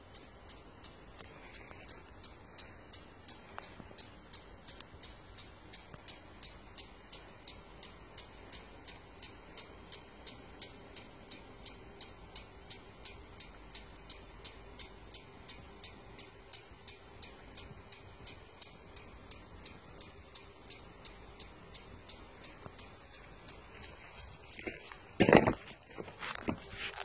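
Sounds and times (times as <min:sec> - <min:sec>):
impact sprinkler ticking: 0:00.0 - 0:27.0.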